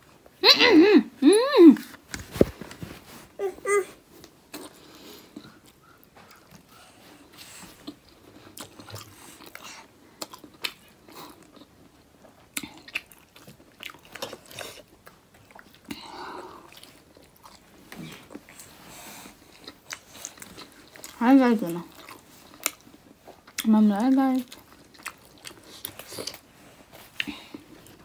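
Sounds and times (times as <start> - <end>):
person chewing food: 4.1 - 23.7, 24.3 - 28.0.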